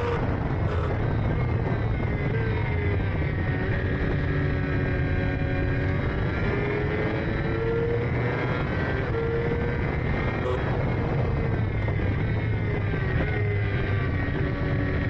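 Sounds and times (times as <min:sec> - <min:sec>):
sidecar engine running hard: 0:00.0 - 0:15.0
wind noise: 0:00.0 - 0:15.0.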